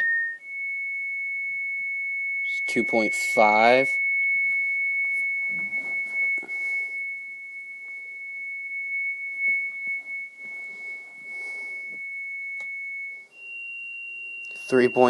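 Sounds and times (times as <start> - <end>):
high sine test tone: 0.0 - 15.0.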